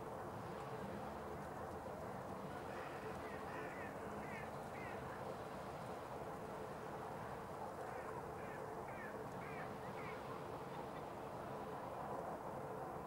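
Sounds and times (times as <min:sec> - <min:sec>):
faint constant hum: 0:00.0 - 0:13.0
noisy outdoor background: 0:00.0 - 0:13.0.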